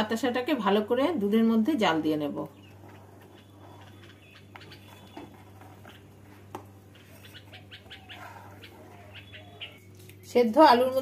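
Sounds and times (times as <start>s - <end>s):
steady low hum: 0.0s - 11.0s
faint birds chirping: 1.1s - 11.0s.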